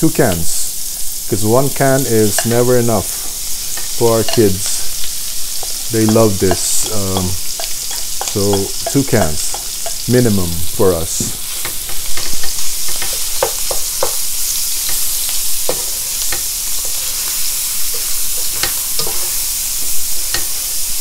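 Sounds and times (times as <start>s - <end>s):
meat sizzling in oil: 0.0s - 21.0s
spatula scraping and tapping pan: 1.9s - 10.2s, 11.1s - 20.9s.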